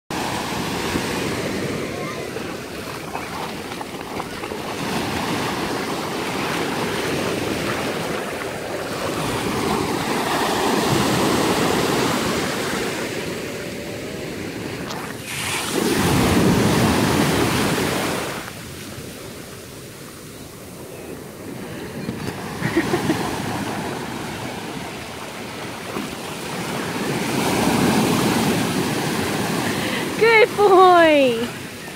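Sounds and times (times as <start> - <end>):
ocean surf breaking: 0.1 - 31.9.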